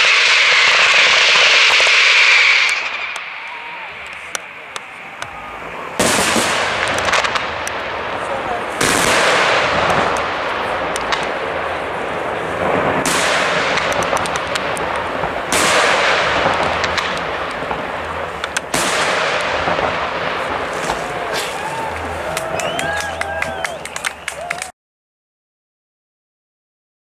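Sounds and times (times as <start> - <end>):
fireworks booming with echo: 0.0 - 24.7
fireworks crackling pops: 0.0 - 24.7.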